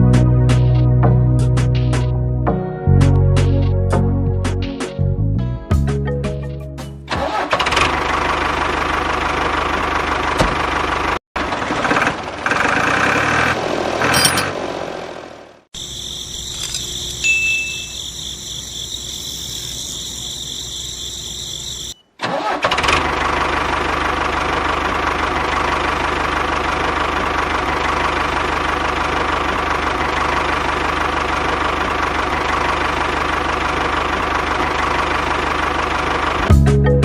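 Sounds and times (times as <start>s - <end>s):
tractor engine running: 7.1s - 37.0s.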